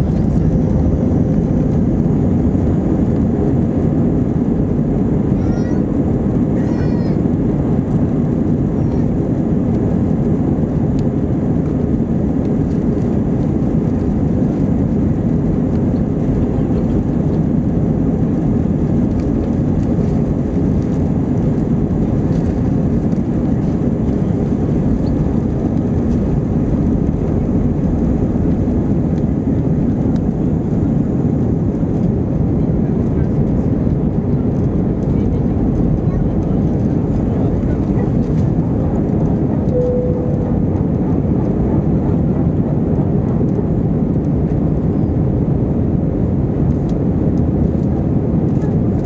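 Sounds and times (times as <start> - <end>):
jet engines low rumble: 0.0 - 49.0.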